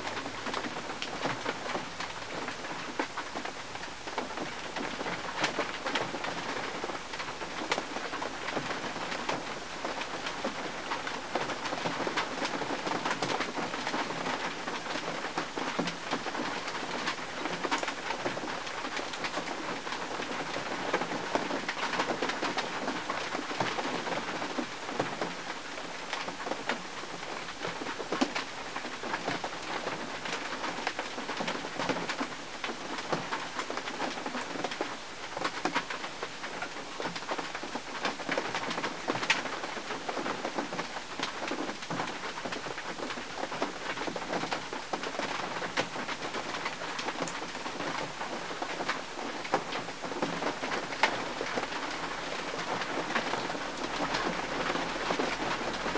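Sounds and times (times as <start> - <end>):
rain on car windshield: 0.0 - 55.9.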